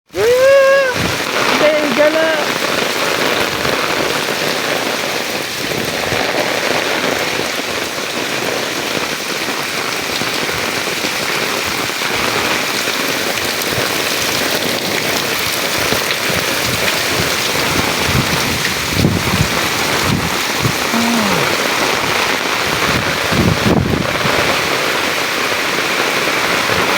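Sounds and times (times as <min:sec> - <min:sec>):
heavy rain falling: 0:00.1 - 0:26.9.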